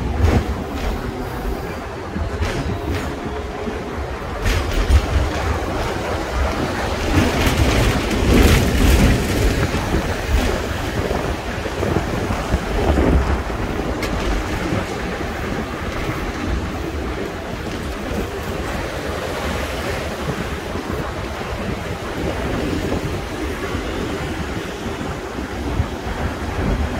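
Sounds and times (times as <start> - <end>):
tram running on rails: 0.0 - 26.9
wind buffeting microphone: 0.0 - 26.9.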